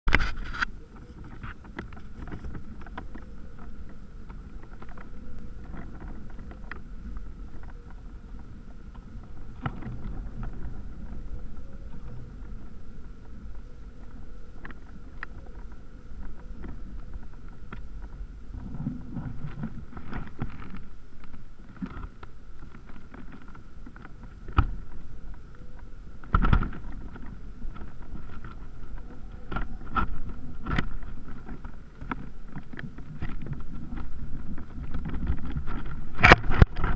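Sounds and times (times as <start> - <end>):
wind rumbling on microphone: 0.0 - 36.9
faint steady whine: 0.1 - 36.9.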